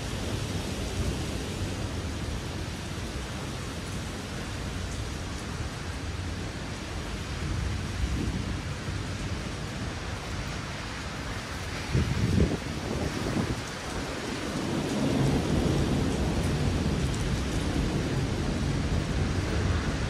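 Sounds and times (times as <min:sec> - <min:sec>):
rain and wind hiss: 0:00.0 - 0:20.0
low thunder rumble: 0:00.3 - 0:20.0.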